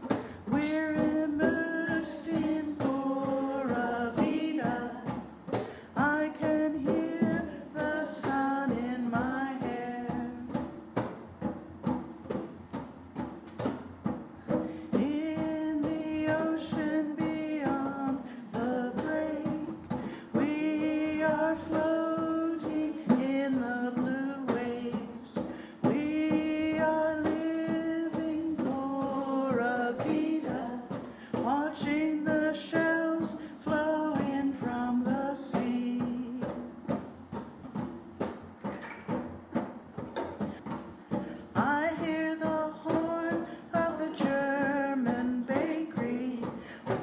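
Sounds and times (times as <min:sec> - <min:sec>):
percussive beat: 0:00.0 - 0:47.0.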